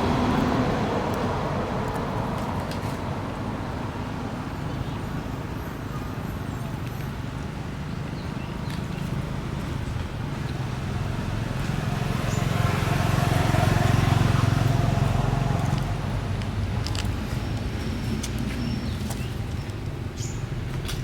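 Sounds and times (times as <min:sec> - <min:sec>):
vehicle engine humming: 0:00.0 - 0:05.0, 0:08.6 - 0:21.0.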